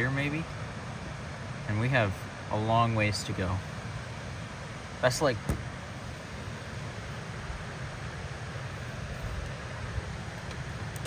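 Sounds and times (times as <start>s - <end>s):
rushing outdoor noise: 0.0s - 11.0s.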